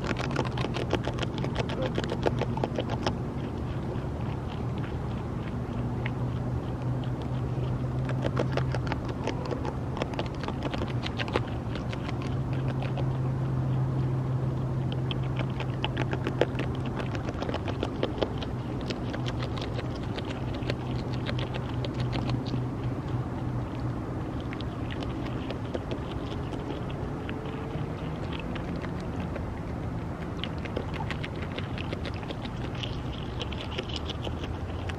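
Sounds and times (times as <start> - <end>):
beaver chewing leaves: 0.0 - 34.9
low background hum: 0.0 - 34.9.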